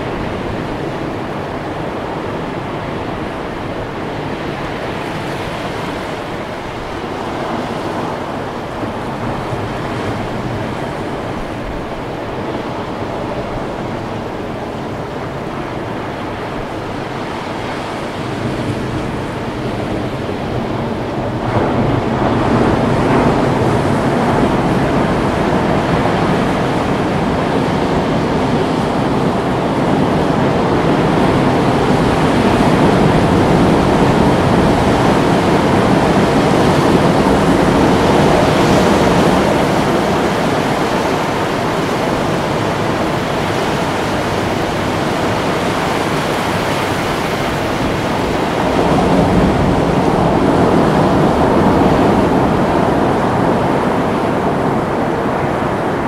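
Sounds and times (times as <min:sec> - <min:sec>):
waves breaking and washing: 0:00.0 - 0:56.0.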